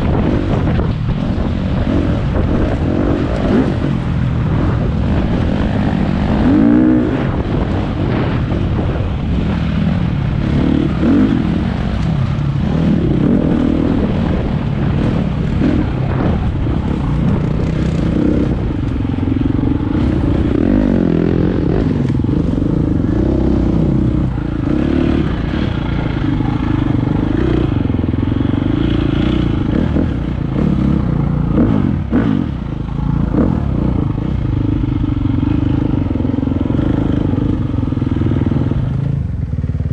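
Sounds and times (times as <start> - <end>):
dirt bike engine revving: 0.0 - 39.1.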